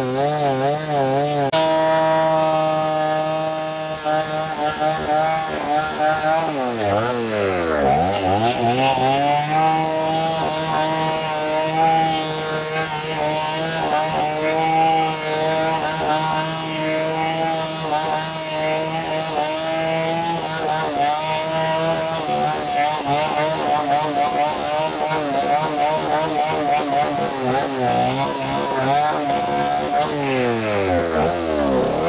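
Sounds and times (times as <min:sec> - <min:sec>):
chainsaw engine running: 0:00.0 - 0:32.0.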